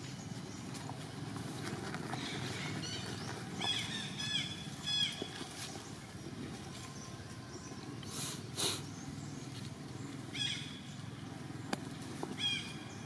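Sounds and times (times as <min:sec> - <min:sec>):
dry leaves rustling: 0:00.0 - 0:08.8, 0:09.4 - 0:13.0.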